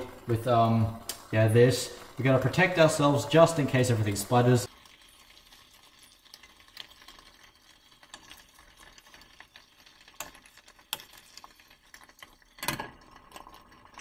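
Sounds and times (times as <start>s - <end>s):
egg crackling in a frying pan: 0.0s - 14.0s.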